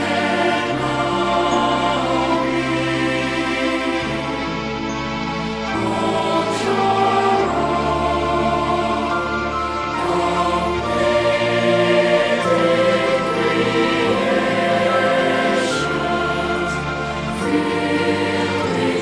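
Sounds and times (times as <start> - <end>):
choir singing gospel: 0.0 - 19.0.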